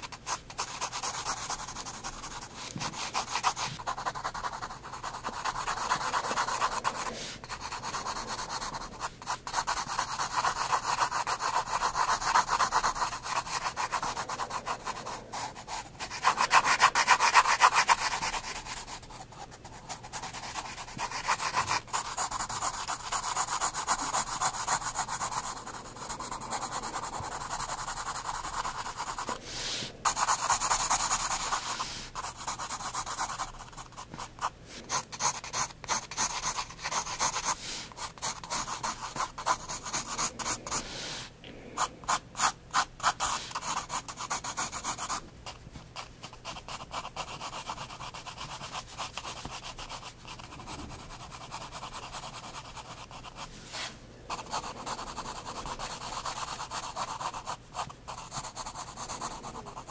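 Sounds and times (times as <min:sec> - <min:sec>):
pencil scratching on paper: 0:00.0 - 0:59.9.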